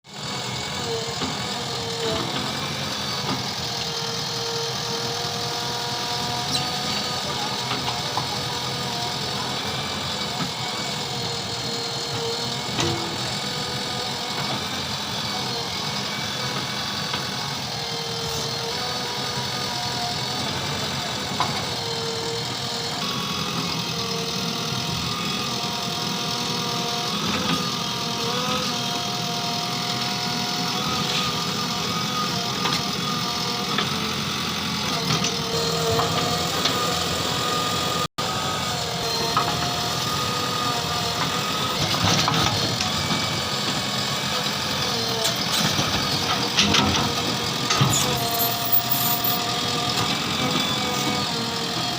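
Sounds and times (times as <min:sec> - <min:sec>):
diesel engine running: 0:00.1 - 0:51.9.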